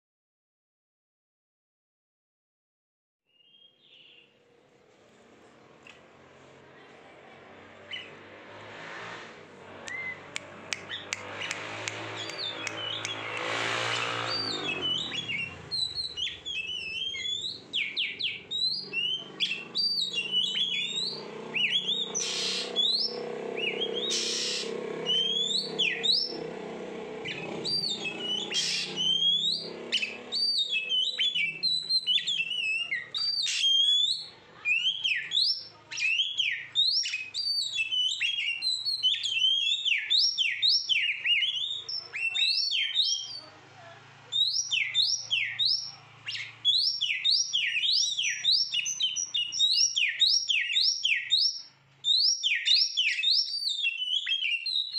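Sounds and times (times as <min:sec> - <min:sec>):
bird singing whistled notes: 0:03.3 - 0:04.4, 0:09.8 - 0:26.5, 0:27.2 - 0:43.4, 0:44.3 - 0:54.9.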